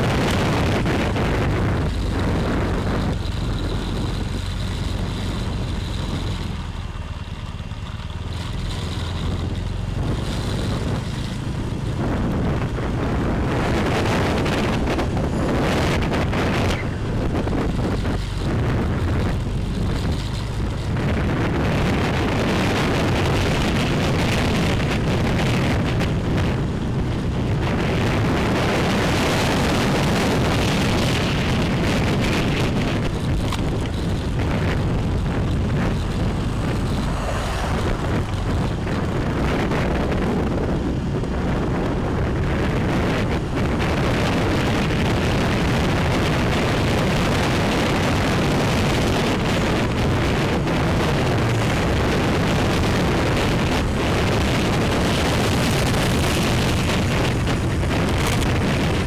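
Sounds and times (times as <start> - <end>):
wind rush over microphone: 0.0 - 7.2, 7.8 - 59.0
motorbike engine and tyre noise: 0.0 - 59.0.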